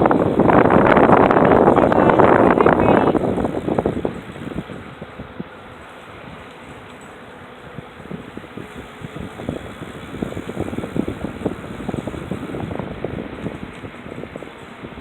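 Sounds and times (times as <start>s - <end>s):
steady rushing noise: 0.0s - 15.0s
wheels and frame rattling: 0.0s - 15.0s.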